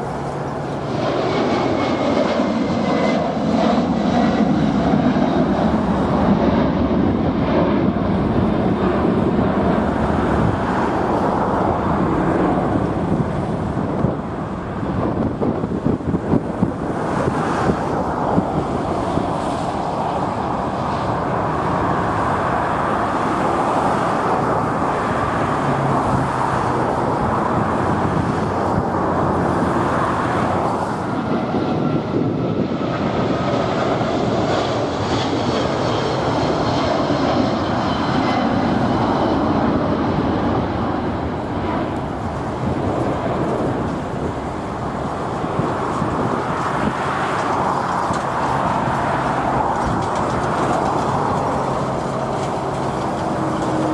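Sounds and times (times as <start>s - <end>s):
jet engines roaring with whine: 0.0s - 53.9s
wind buffeting microphone: 0.0s - 53.9s.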